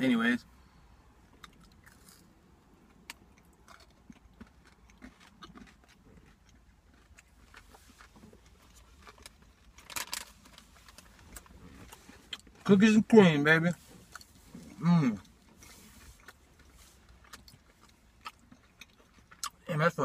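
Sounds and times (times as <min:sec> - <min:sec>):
crunching and mouth clicks: 0:01.3 - 0:12.7, 0:13.9 - 0:19.8.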